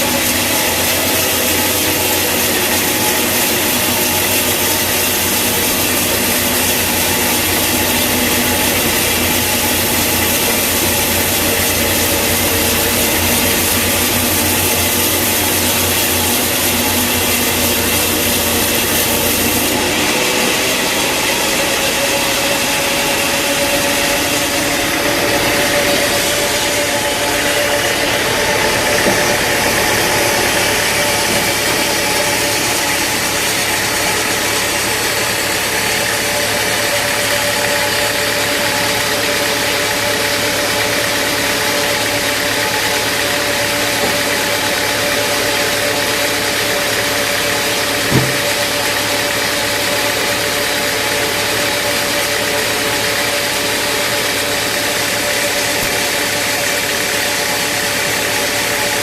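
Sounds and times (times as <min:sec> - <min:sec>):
machine whine: 0:00.0 - 0:59.0
sawmill machinery humming: 0:00.0 - 0:59.0.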